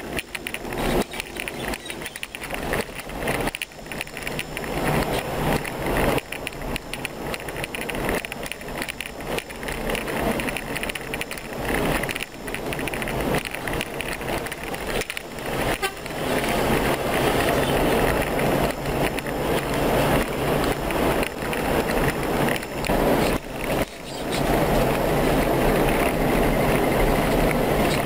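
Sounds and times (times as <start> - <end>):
vehicle on rough dirt road: 0.0 - 28.0.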